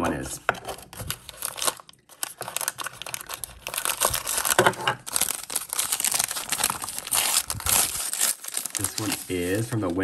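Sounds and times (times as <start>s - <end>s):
wrapper crinkling and tearing: 0.9s - 10.0s.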